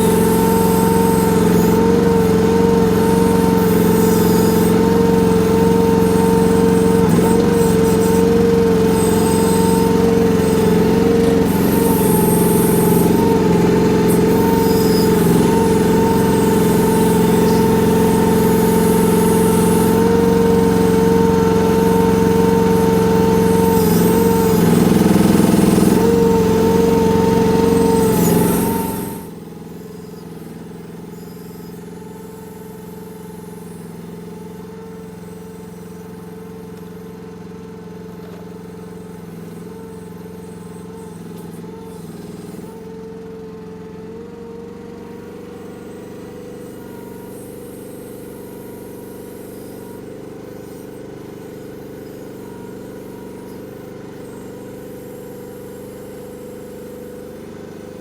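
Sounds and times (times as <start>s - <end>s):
excavator engine whining: 0.0s - 58.0s.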